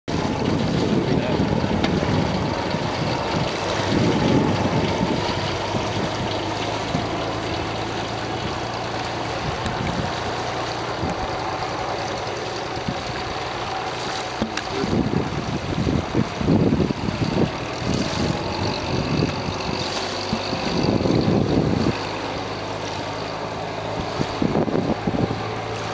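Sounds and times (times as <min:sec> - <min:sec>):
outboard motor humming: 0:00.1 - 0:25.9
wind gusts on microphone: 0:00.1 - 0:25.9.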